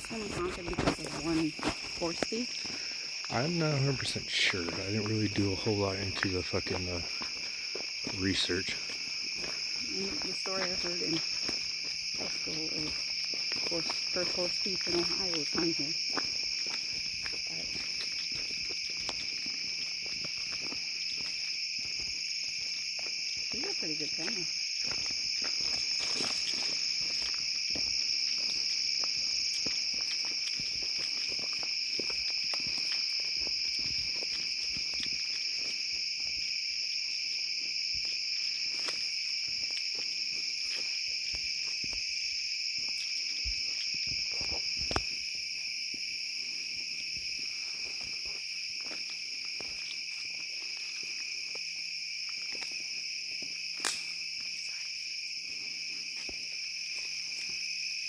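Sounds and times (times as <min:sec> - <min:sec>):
footsteps through brush: 0:00.0 - 0:03.3, 0:04.4 - 0:58.0
night insects chorus: 0:00.0 - 0:58.0.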